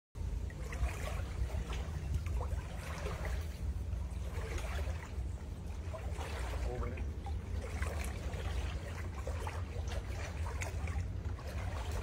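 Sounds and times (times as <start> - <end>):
low rumble: 0.2 - 12.0
water sloshing from wading: 0.2 - 12.0.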